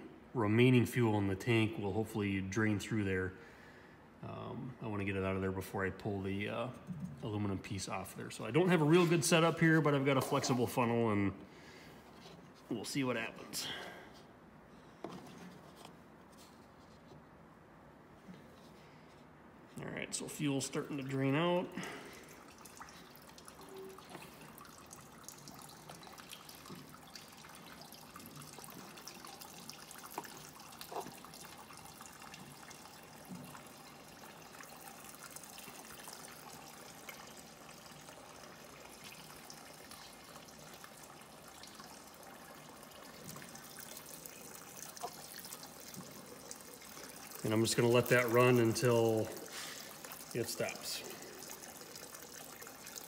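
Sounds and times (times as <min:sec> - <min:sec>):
diesel fuel trickling into funnel: 0:00.0 - 0:17.1, 0:17.9 - 0:53.0.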